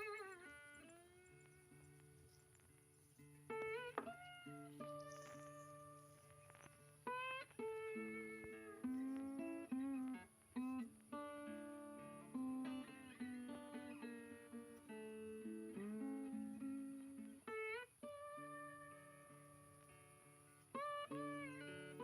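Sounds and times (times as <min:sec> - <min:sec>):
plucked acoustic guitar: 0:00.0 - 0:22.0.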